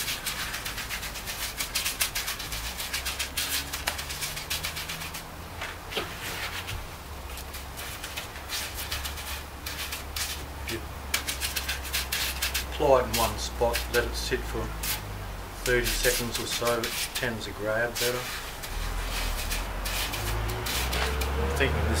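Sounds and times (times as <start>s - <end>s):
hand scratching stucco on concrete: 0.0s - 22.0s.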